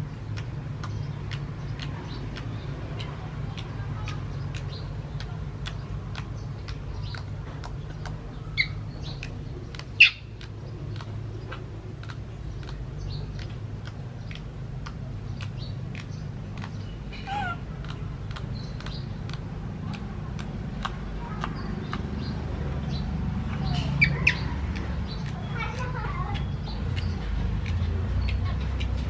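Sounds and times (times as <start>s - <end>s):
even ticking: 0.0s - 29.0s.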